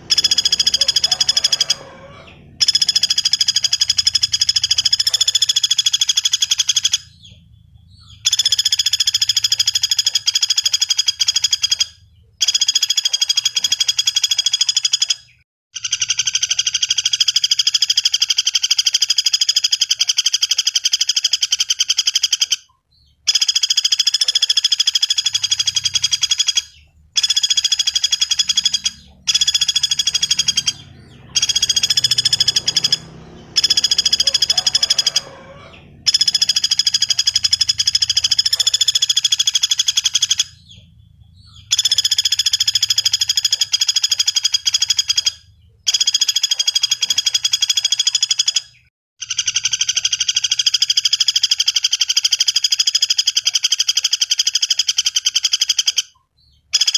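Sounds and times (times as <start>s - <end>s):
woodpecker rattling trills: 0.0s - 56.9s.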